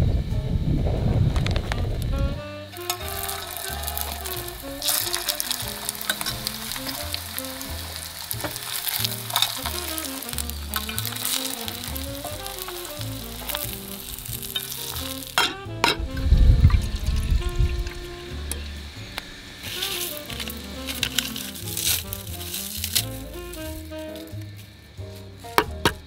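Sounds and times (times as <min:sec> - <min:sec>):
loud low rumble: 0:00.0 - 0:24.9
dumplings sizzling in oil: 0:02.7 - 0:26.0.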